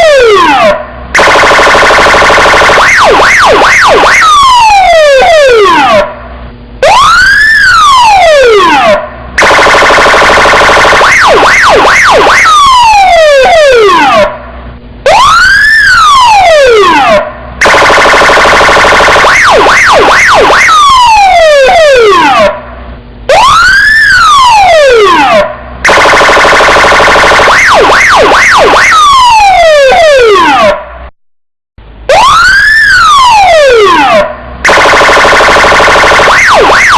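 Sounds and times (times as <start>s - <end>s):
electronic police siren: 0.0s - 31.1s, 31.9s - 36.9s.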